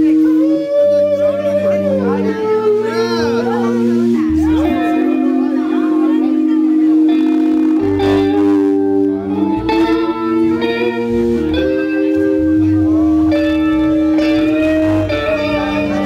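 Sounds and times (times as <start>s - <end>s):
guitar chords: 0.0s - 16.0s
low bass: 0.0s - 16.0s.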